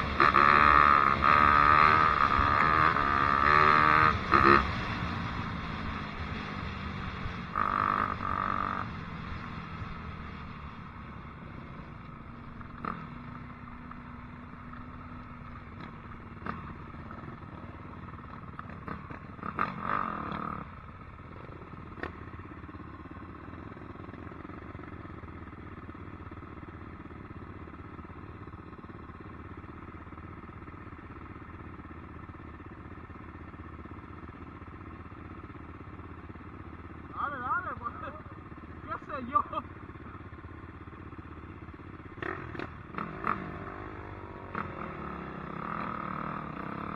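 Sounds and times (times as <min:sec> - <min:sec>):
dirt bike engine at low revs: 0:00.0 - 0:46.9.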